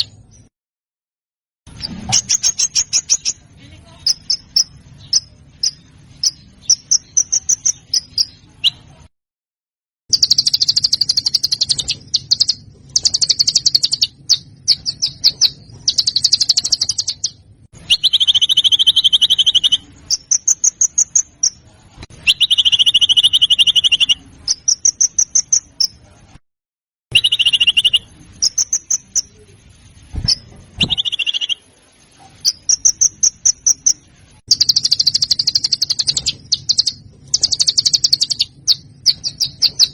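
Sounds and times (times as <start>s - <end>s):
songbirds chip notes: 1.7s - 8.9s, 10.1s - 21.6s, 22.2s - 26.0s, 27.1s - 29.6s, 30.2s - 31.7s, 32.3s - 39.9s.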